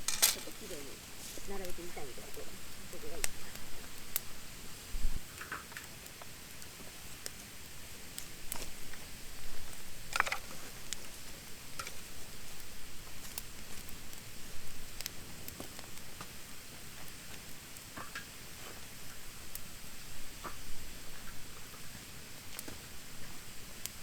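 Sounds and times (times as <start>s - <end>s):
campfire popping and crackling: 0.0s - 24.0s
faint steady hiss: 0.0s - 24.0s.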